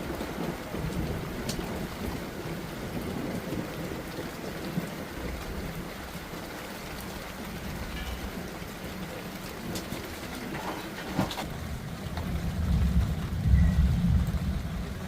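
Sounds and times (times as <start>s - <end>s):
low thunder rumble: 0.0s - 15.0s
steady rain falling: 0.0s - 15.0s.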